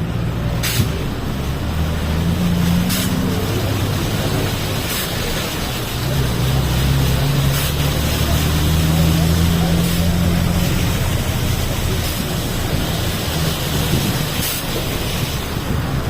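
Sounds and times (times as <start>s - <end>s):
steady rushing noise: 0.0s - 16.0s
vehicle engine running: 0.0s - 16.0s.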